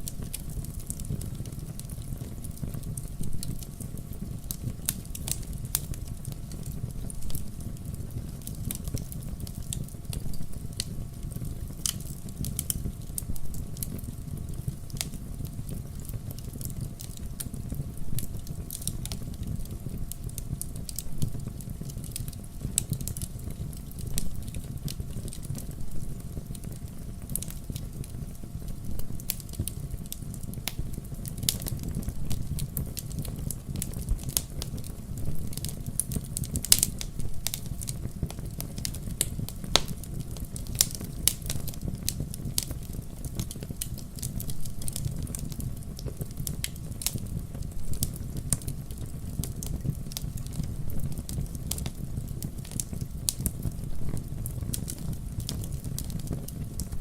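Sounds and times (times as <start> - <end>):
burning logs crackling and popping: 0.0 - 57.0
low rumble of flames: 0.0 - 57.0.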